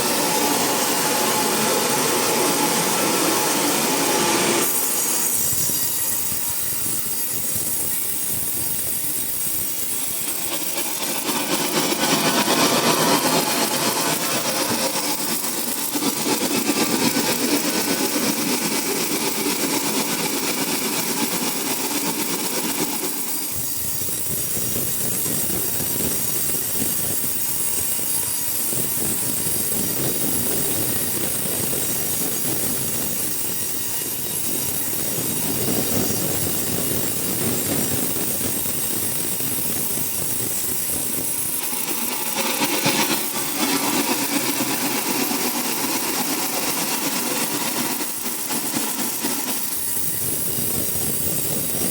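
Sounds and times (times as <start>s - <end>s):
sawmill machinery running: 0.0s - 51.9s.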